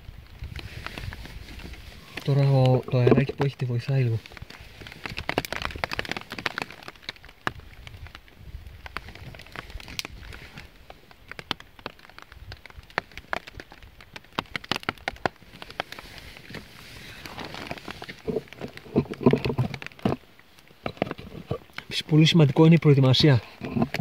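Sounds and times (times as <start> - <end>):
low rumble of breeze: 0.0 - 24.0
wood fire crackling and popping: 0.0 - 24.0.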